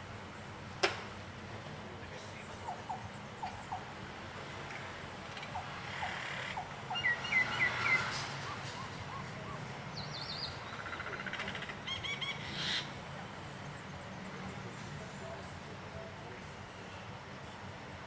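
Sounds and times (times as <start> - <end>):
birds chirping: 0.0 - 17.7.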